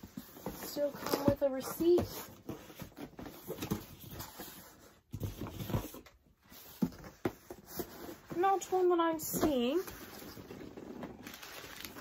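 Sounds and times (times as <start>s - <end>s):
rustling in cardboard box: 0.0s - 12.0s.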